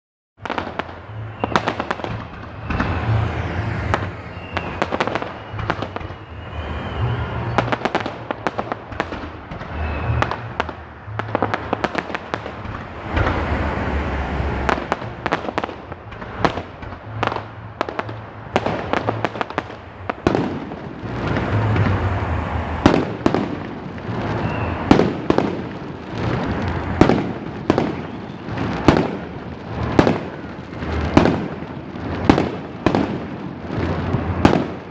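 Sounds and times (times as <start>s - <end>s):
fireworks booms and crackle: 0.4s - 34.9s.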